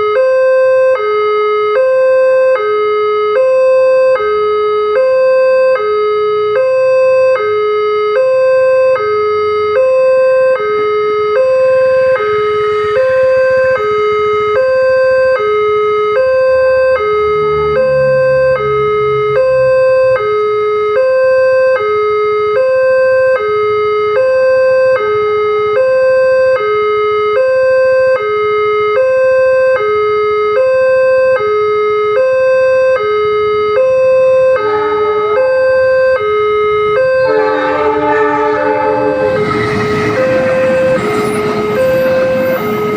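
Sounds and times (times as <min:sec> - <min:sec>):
level crossing two-tone alarm: 0:00.0 - 0:42.9.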